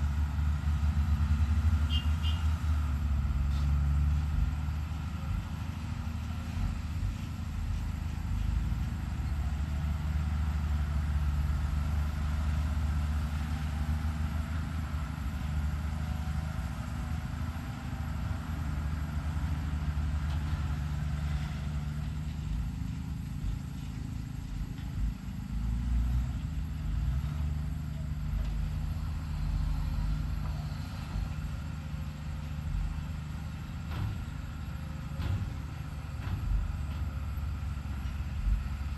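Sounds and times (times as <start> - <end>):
excavator diesel engine drone: 0.0 - 38.9.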